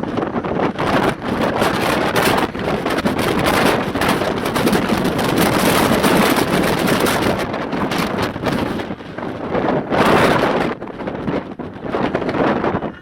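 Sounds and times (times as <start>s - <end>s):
jet engines roaring: 0.0s - 13.0s
wind buffeting microphone: 0.0s - 13.0s.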